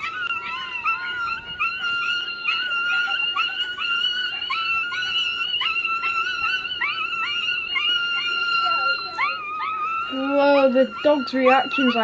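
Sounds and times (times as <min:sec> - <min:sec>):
dog whining and yelping: 0:00.0 - 0:12.0.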